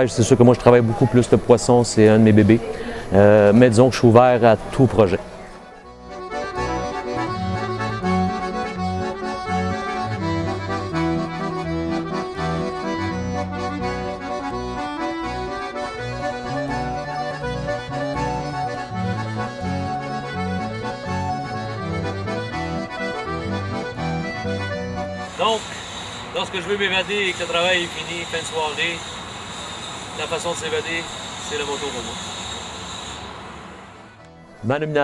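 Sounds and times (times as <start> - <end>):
accordion: 0.0 - 35.0.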